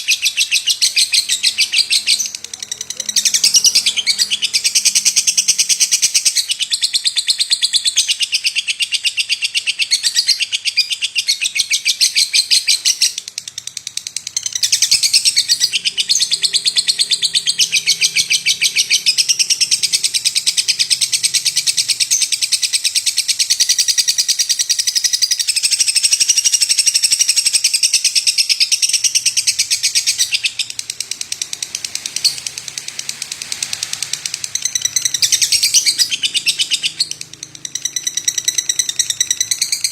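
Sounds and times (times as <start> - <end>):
lovebird chattering chirps: 0.0 - 39.9.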